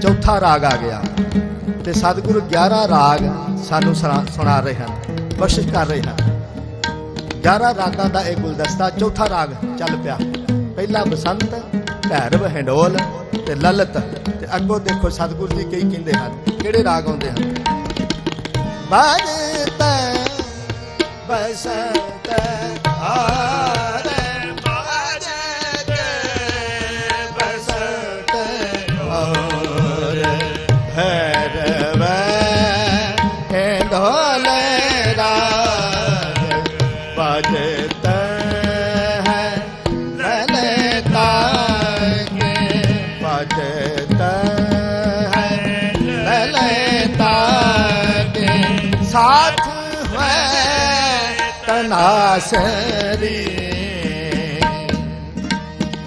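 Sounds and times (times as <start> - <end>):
man singing: 0.0 - 6.6, 7.3 - 56.0
tabla: 0.0 - 56.0.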